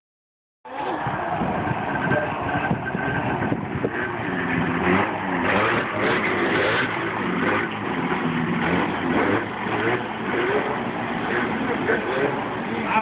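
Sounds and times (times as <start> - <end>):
off-road engines revving: 0.7 - 13.0.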